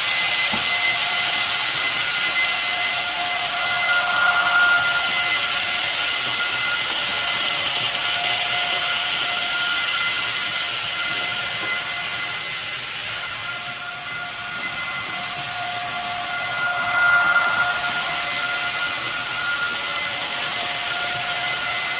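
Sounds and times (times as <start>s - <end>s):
model train motor whine: 0.0s - 21.9s.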